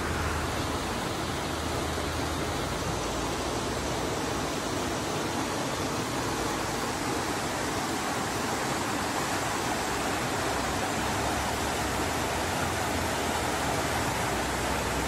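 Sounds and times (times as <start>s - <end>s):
floodwater rushing down a stream: 0.0s - 15.0s.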